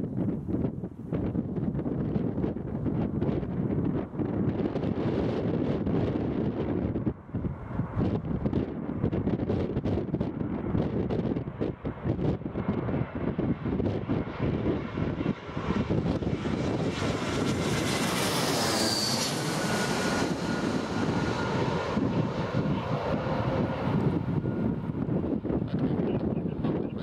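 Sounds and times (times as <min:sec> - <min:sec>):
wind buffeting microphone: 0:00.0 - 0:27.0
jet airliner passing overhead: 0:00.1 - 0:27.0.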